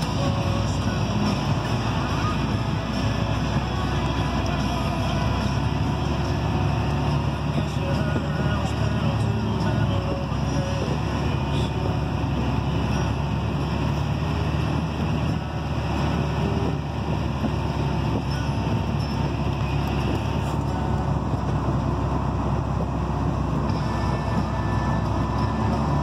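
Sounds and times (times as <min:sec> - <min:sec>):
combine harvester running: 0:00.0 - 0:26.0
tractor engine drone: 0:00.0 - 0:26.0.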